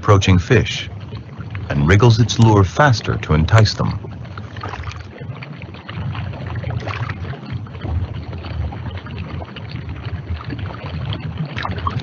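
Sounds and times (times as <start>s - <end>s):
underwater water wash: 0.0s - 12.0s.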